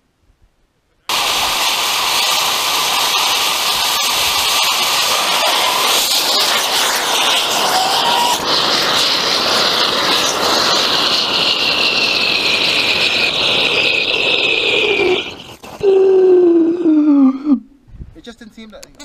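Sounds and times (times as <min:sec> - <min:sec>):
rocket motor hissing and whistling: 0:01.1 - 0:16.4.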